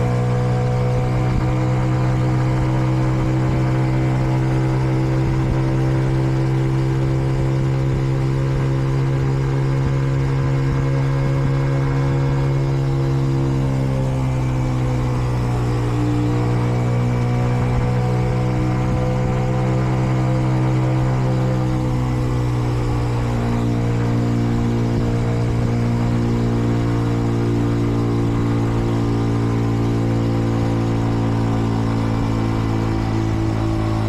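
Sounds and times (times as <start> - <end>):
motorcycle engine cruising: 0.0 - 34.0.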